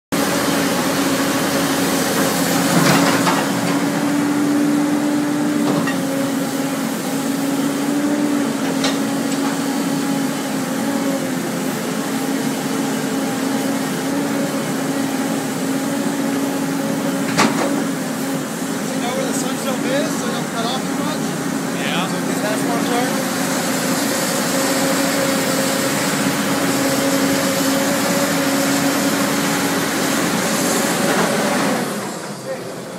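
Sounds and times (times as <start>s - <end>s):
excavator engine drone: 0.2s - 32.9s.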